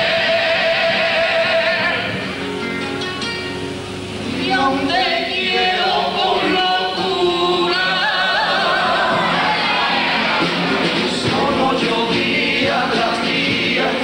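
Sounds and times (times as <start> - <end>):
male chorus singing in harmony: 0.0 - 2.2, 4.4 - 14.0.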